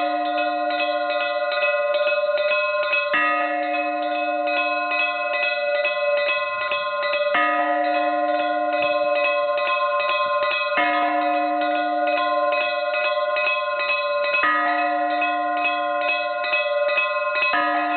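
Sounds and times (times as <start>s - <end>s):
low bell ringing: 0.0s - 17.9s
small bells struck rapidly: 0.0s - 17.9s.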